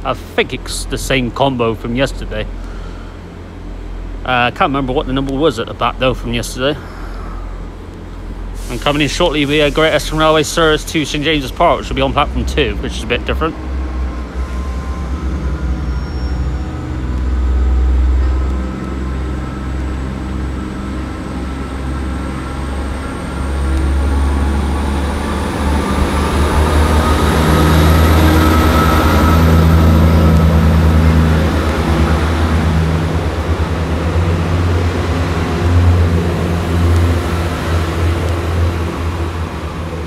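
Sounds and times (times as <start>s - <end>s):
diesel train rumbling past: 0.0s - 40.0s.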